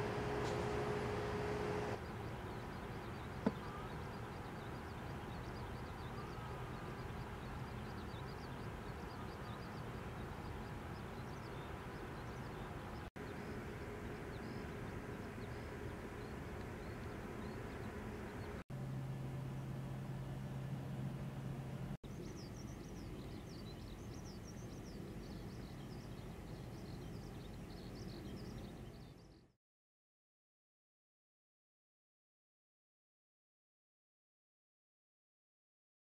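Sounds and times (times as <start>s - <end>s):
outdoor background hiss: 0.0s - 29.4s.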